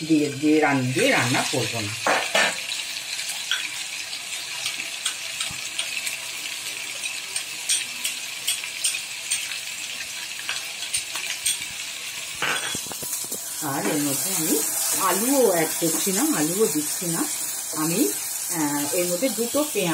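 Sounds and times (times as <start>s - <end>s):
onion paste sizzling in oil: 0.0s - 19.9s.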